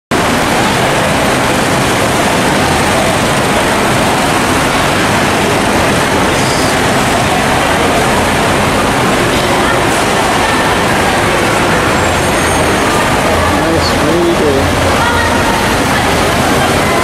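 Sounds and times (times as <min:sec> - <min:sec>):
heavy rain: 0:00.1 - 0:17.0.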